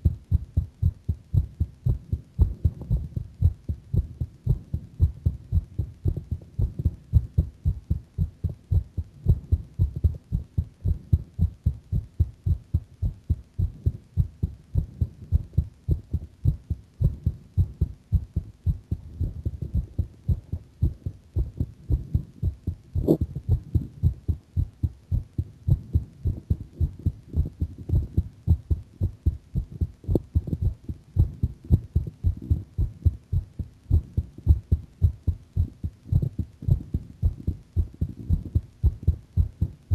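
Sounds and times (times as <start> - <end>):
heartbeat thudding: 0.0 - 39.9.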